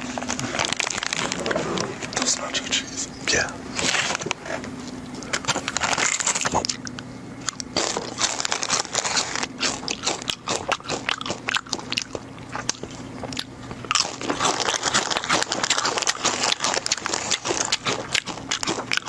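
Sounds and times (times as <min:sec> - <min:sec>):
chewing crunchy chips: 0:00.0 - 0:19.0.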